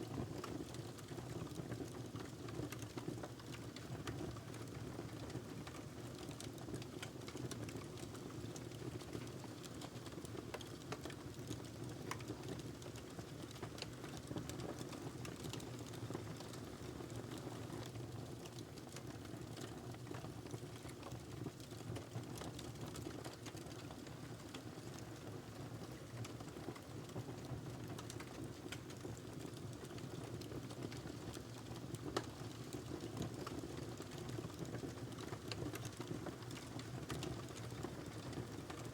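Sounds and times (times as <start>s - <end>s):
fire crackling and popping: 5.7s - 38.9s.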